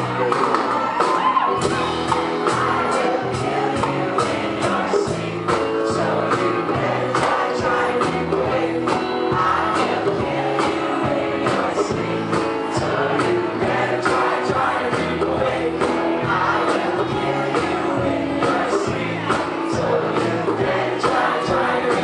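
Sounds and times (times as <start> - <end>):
live rock band playing: 0.0 - 22.0
voices singing along: 0.0 - 22.0
drum beat: 0.1 - 22.0.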